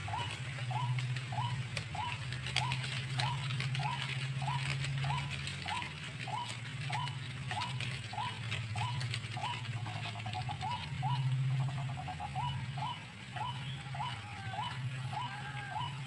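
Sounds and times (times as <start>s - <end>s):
faint clicks: 0.0s - 16.0s
waterhen calling: 0.0s - 16.0s.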